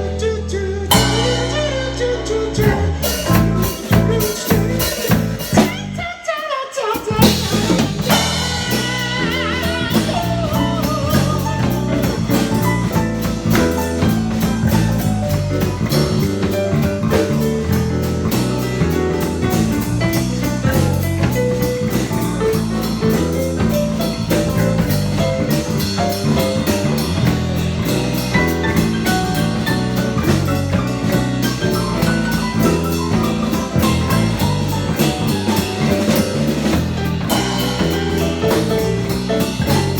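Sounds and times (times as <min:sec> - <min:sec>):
pop rock band playing: 0:00.9 - 0:39.9.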